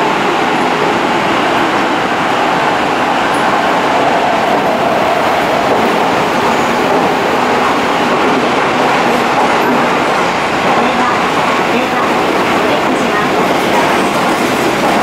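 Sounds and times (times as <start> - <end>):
train wheels rumbling in tunnel: 0.0 - 15.0.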